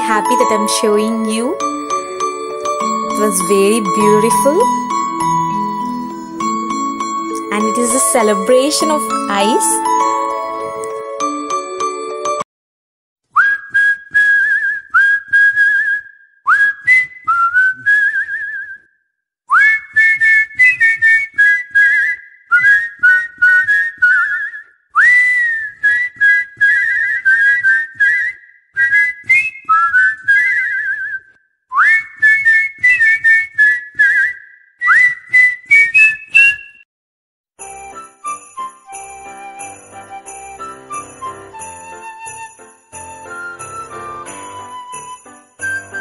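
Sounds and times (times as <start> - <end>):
whistled melody with trills: 0.0 - 12.4, 13.4 - 18.9, 19.5 - 36.8, 37.6 - 46.0.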